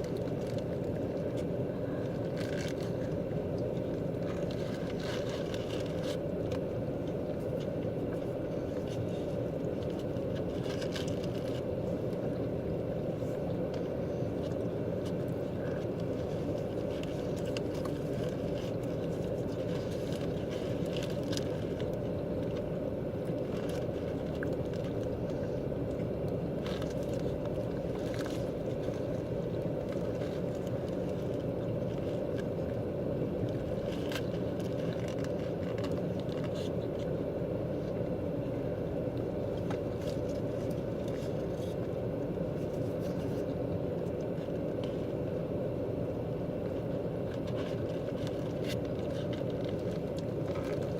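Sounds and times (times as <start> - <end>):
car rumble inside cabin: 0.0 - 50.9.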